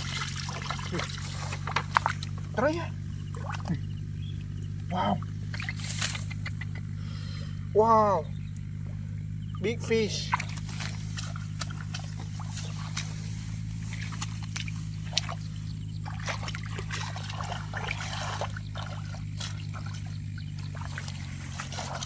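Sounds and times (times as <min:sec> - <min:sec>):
splashing in shallow water: 0:00.0 - 0:07.0, 0:08.6 - 0:22.0
steady low hum: 0:00.0 - 0:22.0.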